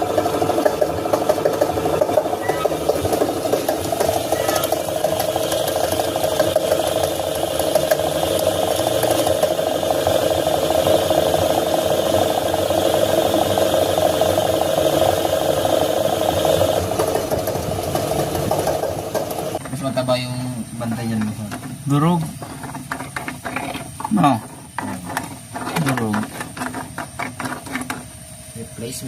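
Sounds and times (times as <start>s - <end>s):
washing machine rumbling and rattling: 0.0s - 29.0s.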